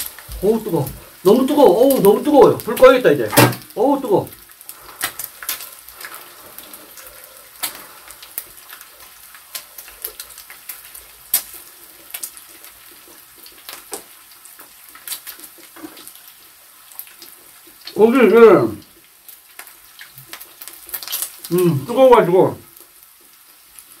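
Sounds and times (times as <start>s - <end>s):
fat crackling and popping: 0.0s - 24.0s
pork sizzling on grill pan: 0.0s - 24.0s.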